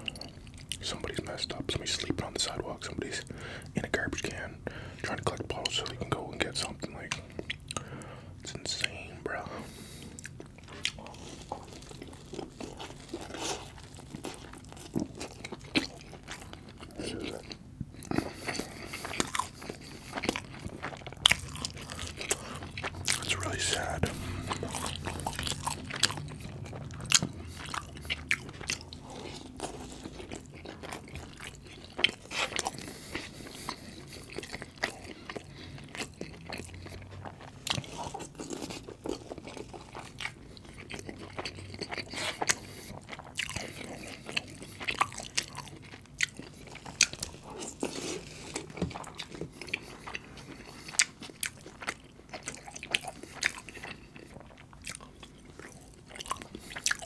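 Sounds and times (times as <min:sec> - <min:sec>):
wet chewing mouth sounds: 0:05.0 - 0:57.0.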